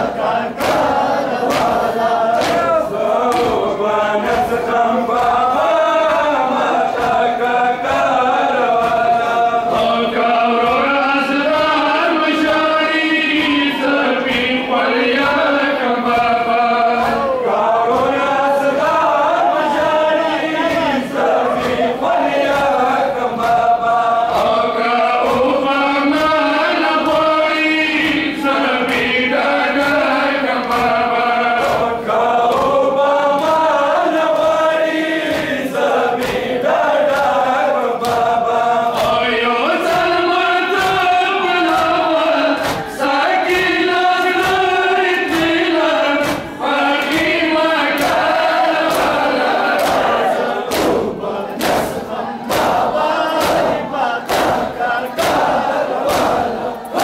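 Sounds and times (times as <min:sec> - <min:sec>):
men chanting a lament: 0:00.0 - 0:57.0
hands slapping chests: 0:00.6 - 0:12.6, 0:15.2 - 0:57.0.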